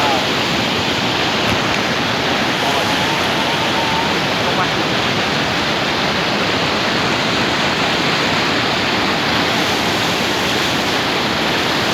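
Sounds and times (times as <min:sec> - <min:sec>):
waterfall rushing over rocks: 0:00.0 - 0:11.9.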